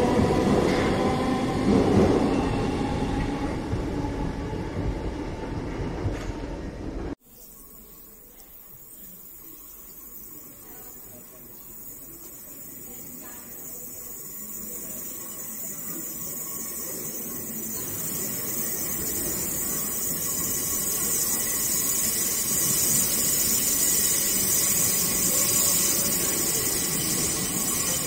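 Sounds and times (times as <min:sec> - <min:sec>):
wheels squealing on rails: 0:00.0 - 0:06.2, 0:10.3 - 0:28.0
electric train approaching: 0:00.0 - 0:28.0.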